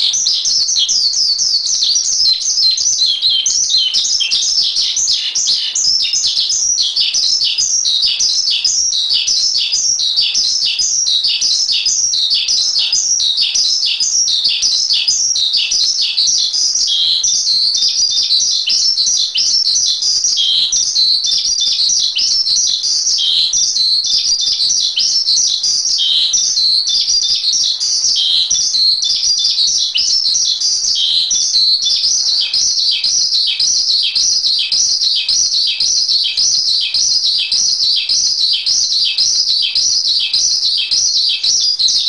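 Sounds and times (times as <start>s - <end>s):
bird chattering song: 0.0s - 42.0s.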